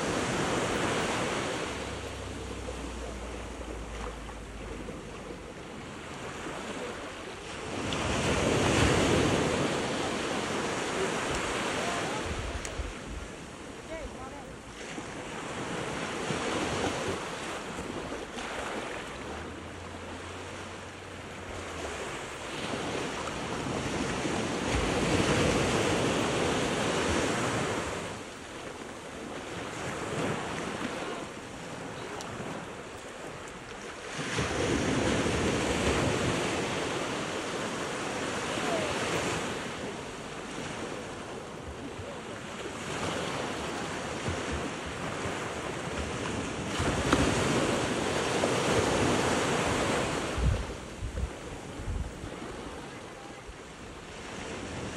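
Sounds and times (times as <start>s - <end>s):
waves breaking over rocks: 0.0s - 54.9s.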